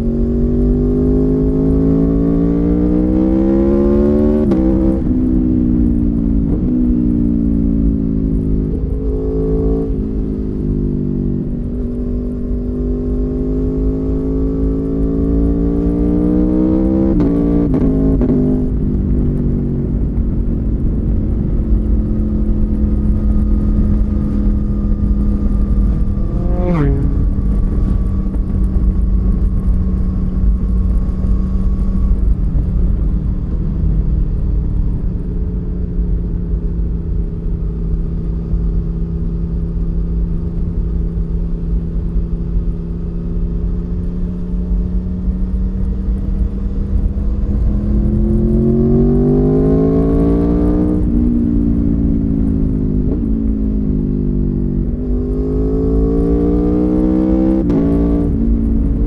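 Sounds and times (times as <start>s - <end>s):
motorcycle engine revving: 0.0s - 34.8s, 36.3s - 59.0s
wind noise: 0.0s - 59.0s.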